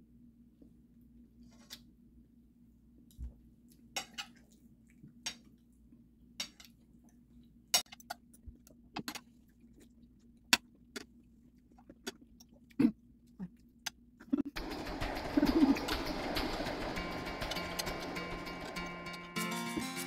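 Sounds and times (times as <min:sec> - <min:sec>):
faint steady hum: 0:00.0 - 0:19.3.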